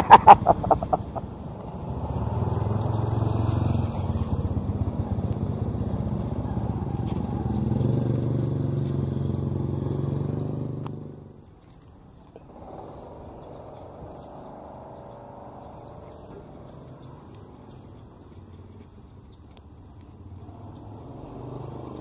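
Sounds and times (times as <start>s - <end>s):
truck engine drone: 0.0s - 22.0s
small motorcycle engine passing: 0.1s - 22.0s.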